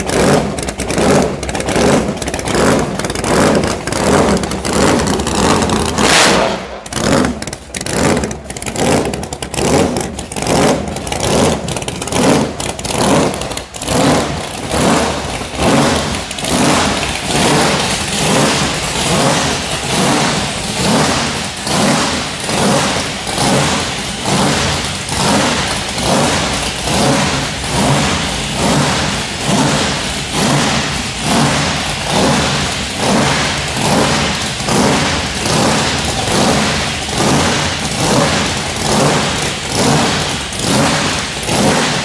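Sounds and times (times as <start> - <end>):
drag car engine running rough: 0.0 - 42.0.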